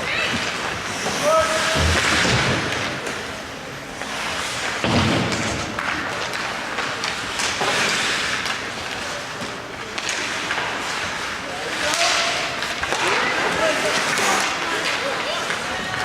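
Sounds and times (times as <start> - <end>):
ice hockey play noise: 0.0 - 16.0.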